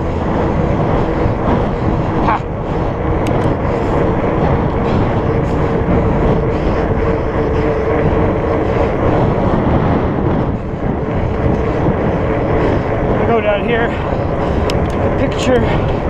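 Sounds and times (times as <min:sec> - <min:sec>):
bike tyres humming on pavement: 0:00.0 - 0:16.0
wind rushing over microphone: 0:00.0 - 0:16.0.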